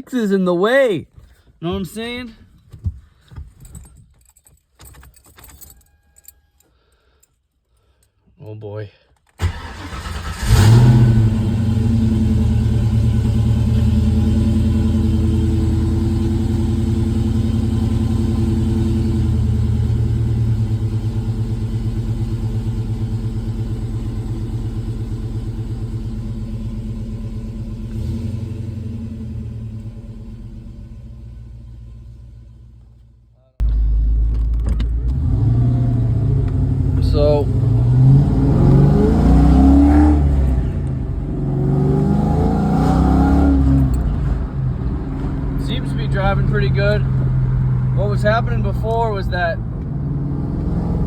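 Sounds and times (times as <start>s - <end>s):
car engine driving on road: 9.4s - 51.0s.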